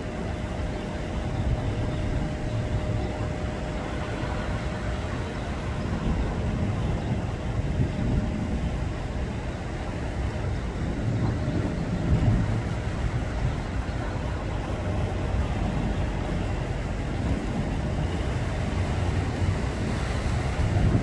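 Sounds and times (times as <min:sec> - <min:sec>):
faint constant hum: 0:00.0 - 0:21.0
wind buffeting microphone: 0:00.0 - 0:21.0.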